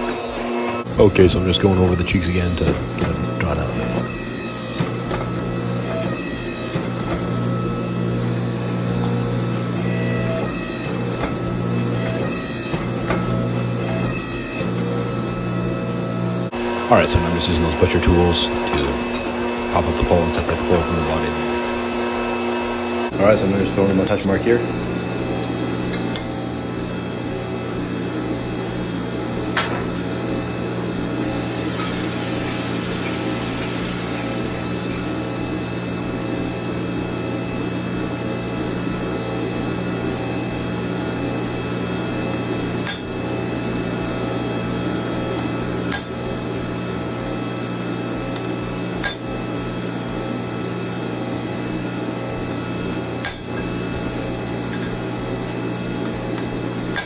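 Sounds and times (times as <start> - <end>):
pump motor humming: 0.0 - 57.0.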